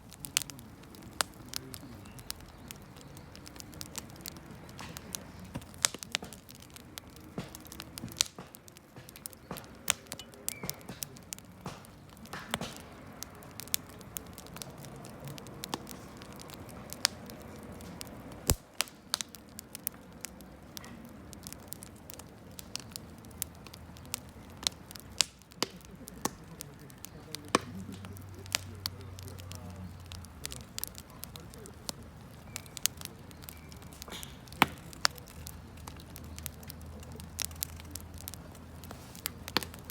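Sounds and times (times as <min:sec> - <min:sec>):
flames rushing: 0:00.0 - 0:39.9
wood crackling and popping: 0:00.0 - 0:39.9.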